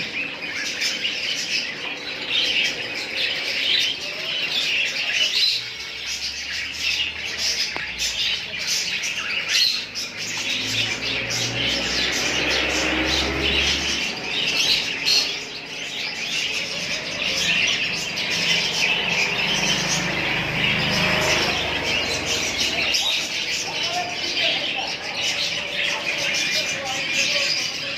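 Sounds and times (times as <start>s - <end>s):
parrots chattering and squawking: 0.0s - 27.9s.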